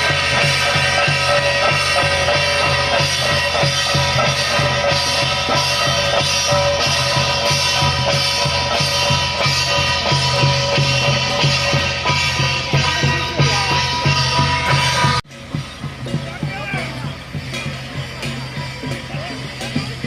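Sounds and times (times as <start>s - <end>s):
drum beat: 0.0s - 20.0s
held instrument tones: 0.0s - 20.0s.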